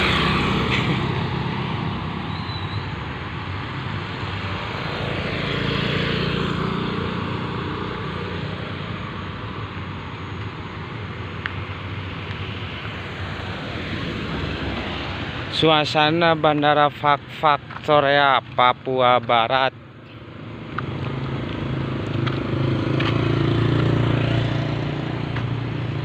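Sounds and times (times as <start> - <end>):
motor scooters passing: 0.0 - 17.9, 19.8 - 26.0.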